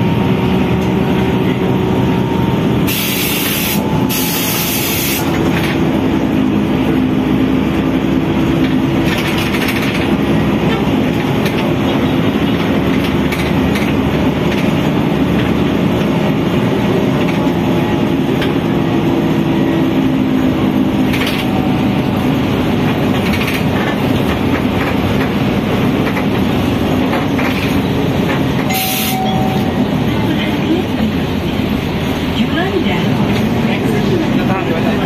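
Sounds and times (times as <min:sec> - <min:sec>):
bus engine and road drone: 0:00.0 - 0:35.0.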